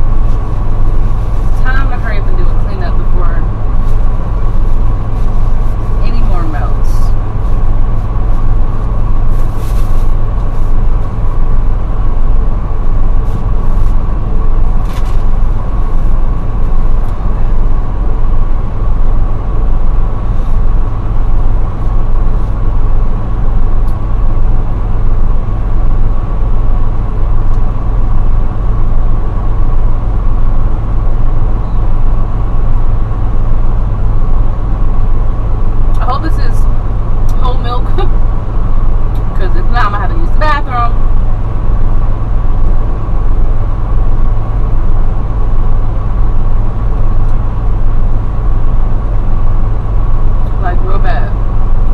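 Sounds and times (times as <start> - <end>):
faint steady whine: 0.0 - 51.9
truck engine low rumble: 0.0 - 51.9.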